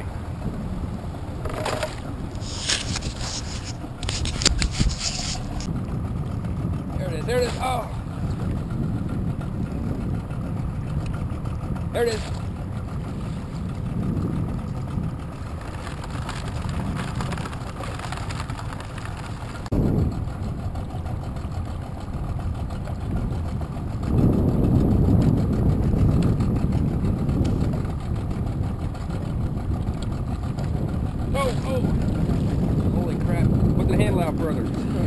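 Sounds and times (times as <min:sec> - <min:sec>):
boat motor idling: 0:00.0 - 0:35.0.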